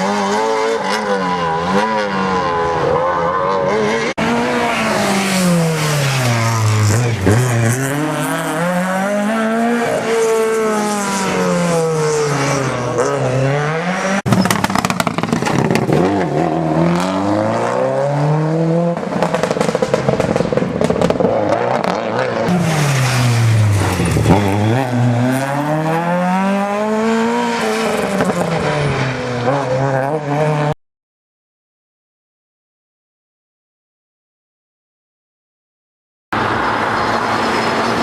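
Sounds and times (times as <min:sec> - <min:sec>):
rally car engine revving: 0:00.0 - 0:30.8.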